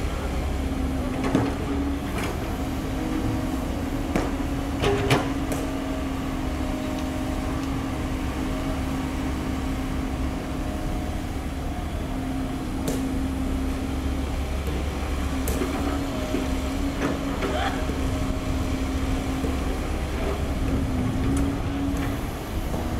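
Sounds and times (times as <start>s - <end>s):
excavator diesel engine rumbling: 0.0s - 22.9s.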